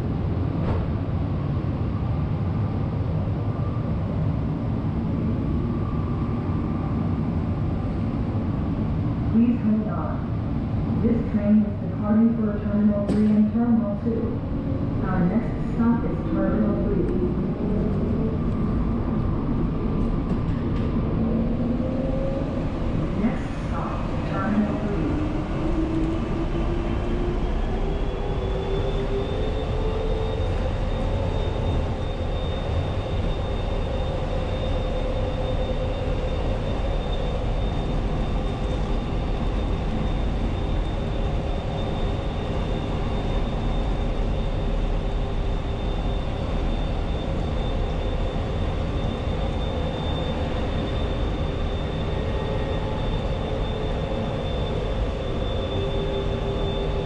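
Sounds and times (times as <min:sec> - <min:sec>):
train running with low rumble: 0:00.0 - 0:57.0.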